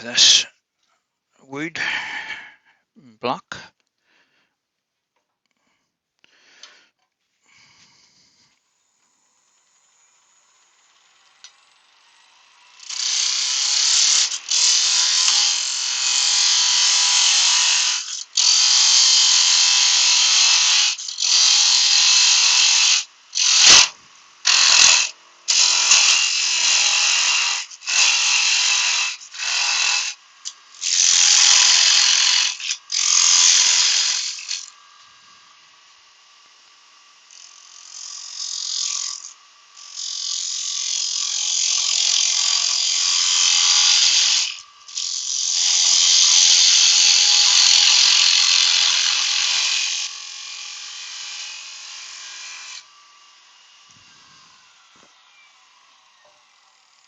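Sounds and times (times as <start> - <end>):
lathe tool cutting wood: 0.0 - 0.5, 9.1 - 57.0
lathe running: 9.2 - 56.0.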